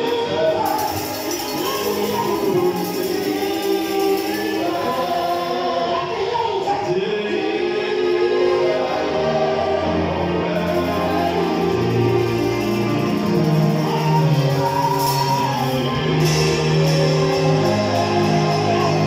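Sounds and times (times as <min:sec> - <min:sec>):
man singing into a microphone: 0:00.0 - 0:08.8, 0:09.8 - 0:19.0
voices singing gospel song: 0:00.0 - 0:19.0.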